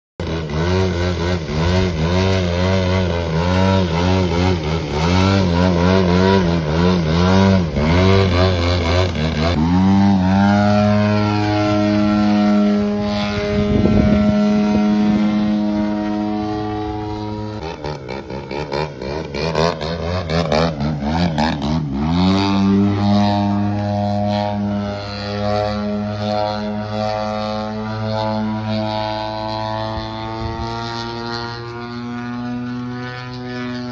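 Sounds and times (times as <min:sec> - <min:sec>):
model plane engine and propeller: 0:00.2 - 0:33.9.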